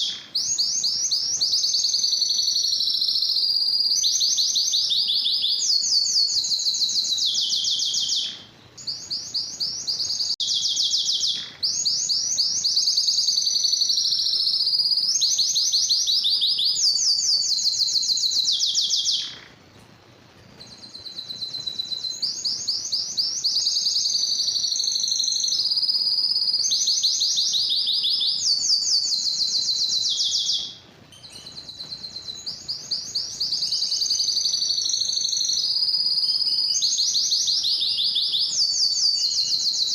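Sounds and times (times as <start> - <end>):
canary singing trills: 0.0 - 19.8, 20.4 - 39.9.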